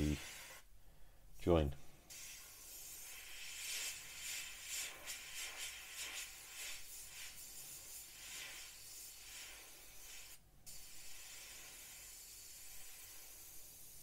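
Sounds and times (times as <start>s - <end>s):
airbrush spraying paint: 0.0s - 0.7s, 2.1s - 14.0s.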